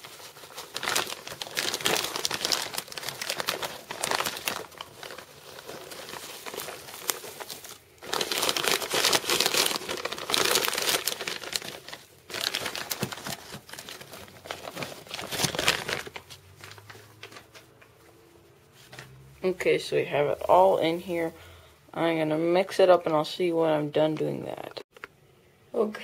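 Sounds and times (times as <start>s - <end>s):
moss and plastic bag rustling: 0.0s - 21.4s.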